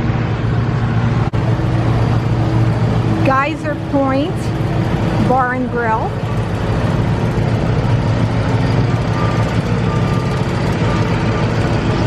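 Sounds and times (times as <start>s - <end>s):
machinery engine drone: 0.0s - 12.0s.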